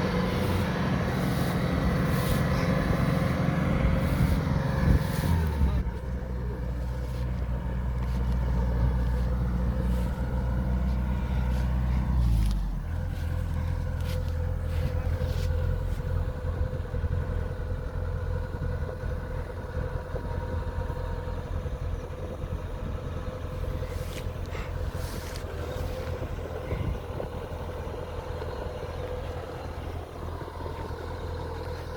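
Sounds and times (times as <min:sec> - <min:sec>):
steady machinery whine: 0:00.0 - 0:29.2
combine harvester engine drone: 0:00.0 - 0:31.9.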